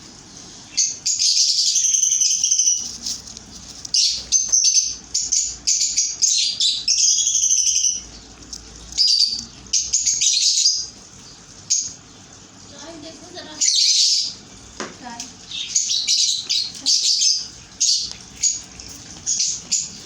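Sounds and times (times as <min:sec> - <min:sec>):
chicks begging calls: 0:00.4 - 0:14.7, 0:15.4 - 0:20.0.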